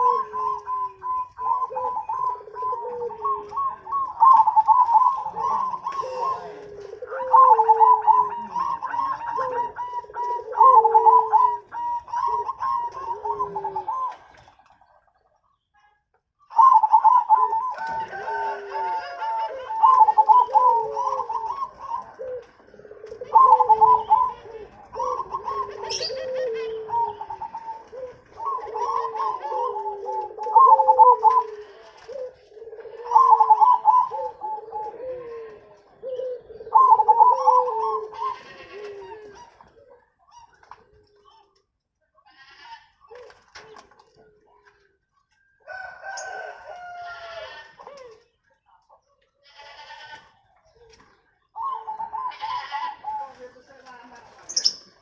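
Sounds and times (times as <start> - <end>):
doves cooing staccato: 0.0 - 15.6, 16.4 - 41.7, 43.0 - 48.4, 50.1 - 55.0
low curving dove coo: 0.0 - 15.6, 16.4 - 41.8, 43.0 - 49.1, 50.0 - 55.0.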